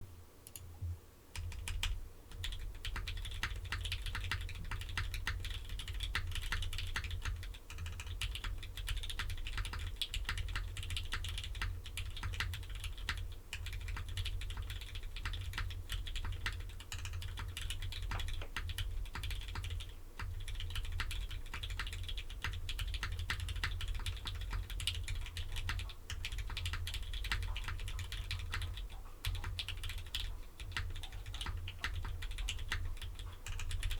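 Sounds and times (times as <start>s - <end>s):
mechanical keyboard typing: 1.4s - 33.9s.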